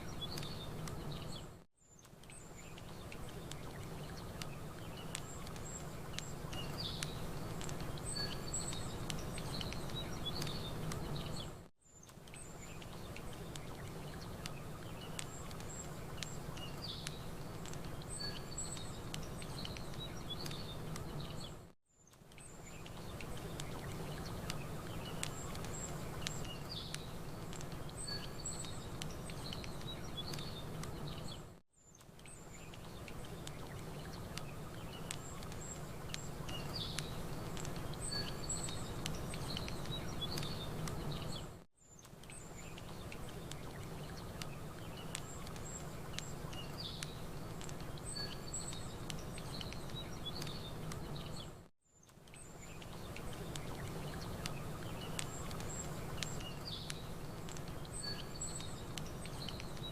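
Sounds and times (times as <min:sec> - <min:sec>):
campfire crackling: 0:00.0 - 0:59.9
small birds chirping: 0:00.0 - 0:59.9.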